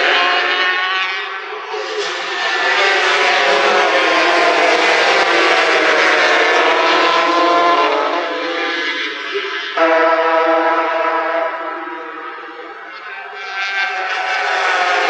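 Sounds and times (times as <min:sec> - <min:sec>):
racing motorcycle engines whining: 0:00.0 - 0:15.0.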